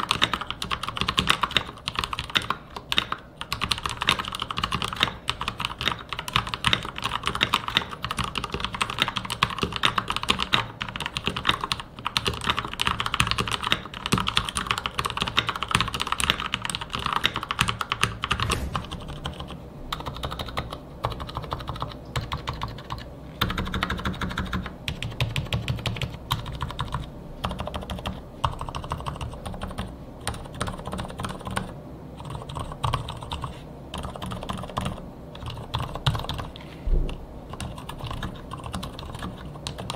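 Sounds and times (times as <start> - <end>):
mechanical keyboard typing: 0.0 - 36.5, 37.5 - 39.9.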